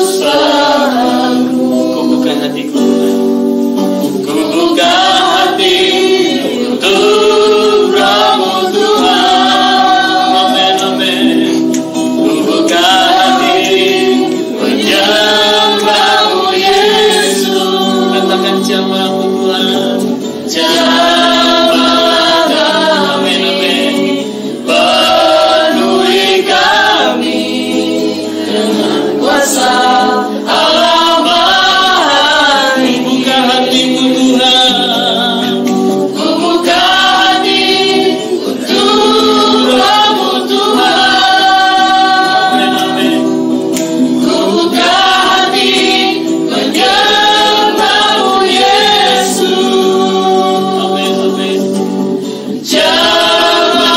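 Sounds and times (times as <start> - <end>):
group singing a worship song: 0.0 - 53.9.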